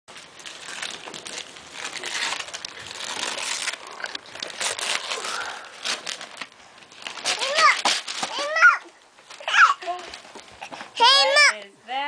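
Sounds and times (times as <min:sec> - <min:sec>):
gift wrapping crinkling: 0:00.1 - 0:11.6.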